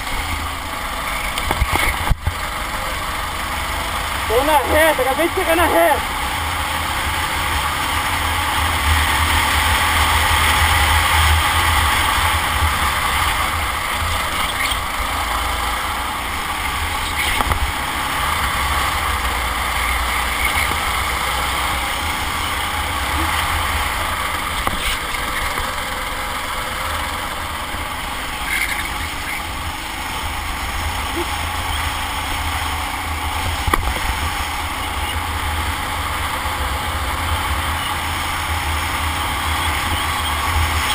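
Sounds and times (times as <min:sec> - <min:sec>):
kart engine racing: 0:00.0 - 0:40.9.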